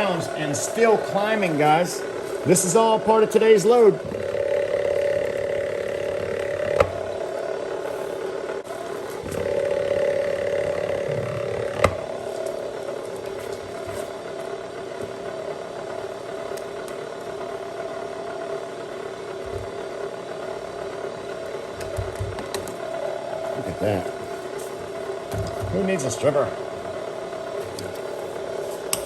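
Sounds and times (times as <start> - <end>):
wire stripping machine humming: 0.0 - 29.0.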